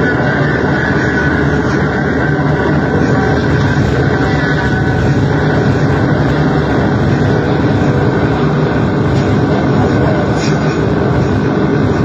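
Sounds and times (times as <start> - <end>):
distorted electronic noise: 0.0 - 12.0.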